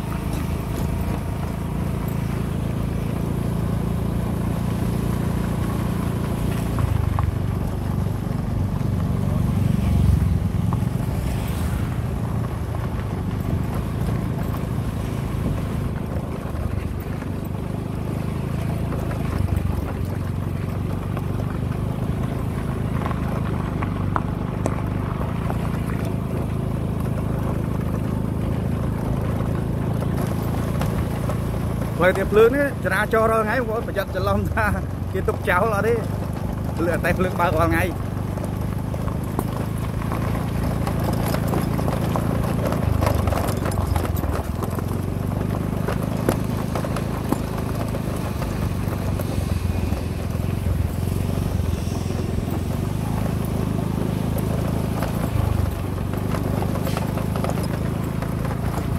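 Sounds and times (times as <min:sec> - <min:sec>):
road noise: 0:00.0 - 0:58.9
small motorbike engine: 0:00.0 - 0:58.9.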